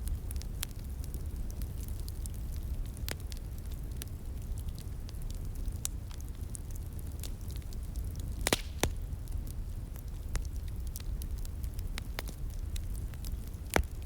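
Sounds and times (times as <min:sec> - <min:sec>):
fire popping and snapping: 0:00.0 - 0:14.0
wood fire crackling: 0:00.0 - 0:14.0.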